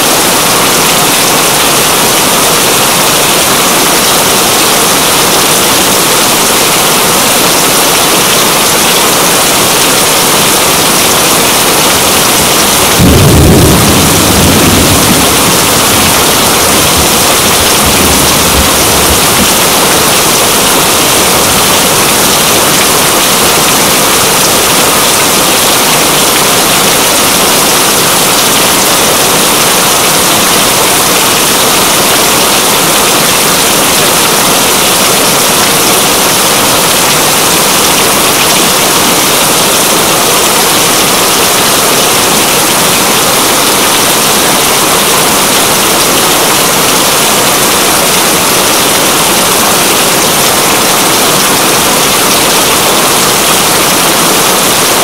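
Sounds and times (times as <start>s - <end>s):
dense rainfall hiss: 0.0s - 55.0s.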